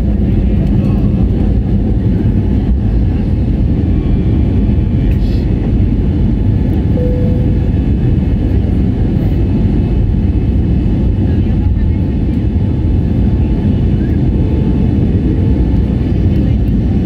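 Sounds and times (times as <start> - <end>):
jet engines at climb thrust: 0.0 - 17.0.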